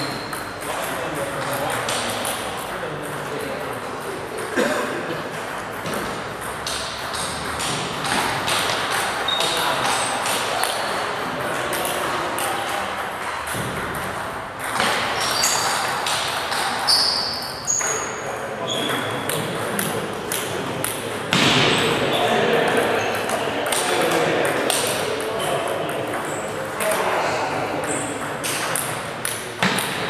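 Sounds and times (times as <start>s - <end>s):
table tennis balls clicking: 0.0s - 4.5s, 5.4s - 18.1s, 18.7s - 21.7s, 22.7s - 27.0s, 27.8s - 30.0s.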